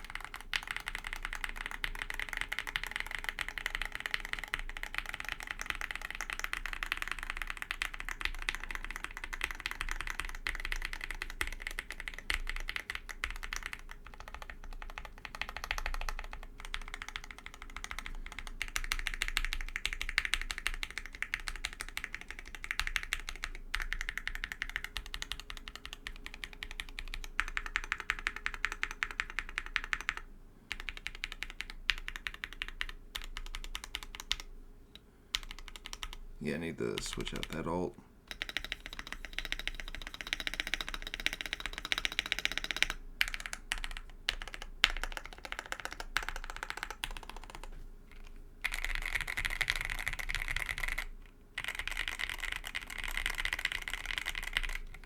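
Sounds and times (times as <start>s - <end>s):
mechanical keyboard clacking: 0.0s - 34.5s, 37.0s - 55.0s.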